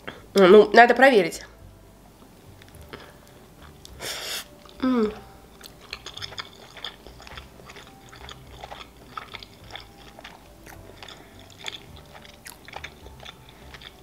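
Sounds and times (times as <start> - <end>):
wet chewing sounds: 2.6 - 14.0.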